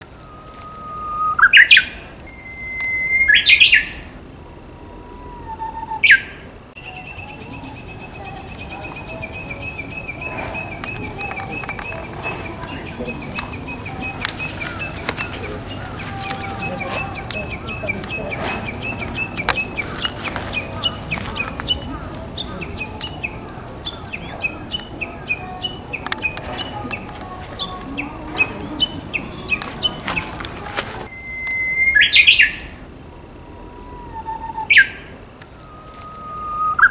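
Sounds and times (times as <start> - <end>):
bird whistling song: 0.0 - 36.9
bush warbler singing: 0.0 - 36.9
fainter birdsong: 0.0 - 36.9.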